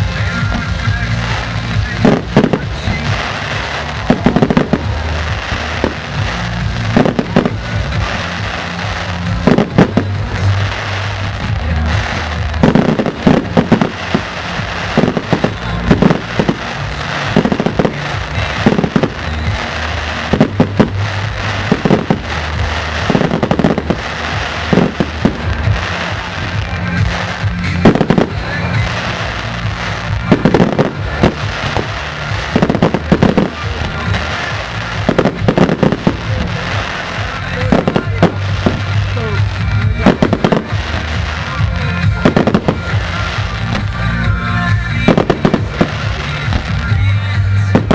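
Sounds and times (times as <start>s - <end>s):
fireworks crackle: 0.0s - 47.9s
music: 0.0s - 47.9s
firework shells bursting: 0.6s - 44.2s.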